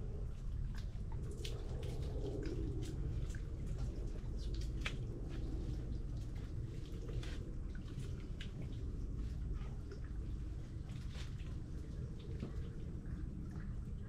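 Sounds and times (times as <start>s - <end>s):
low rumble: 0.0s - 14.0s
water dripping and lapping: 0.0s - 14.0s.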